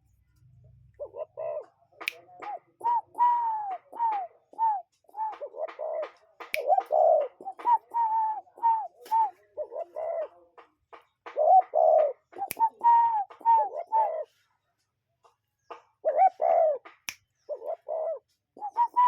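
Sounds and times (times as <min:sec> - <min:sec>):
birds cooing: 0:00.9 - 0:10.7, 0:11.3 - 0:14.4, 0:16.0 - 0:19.0.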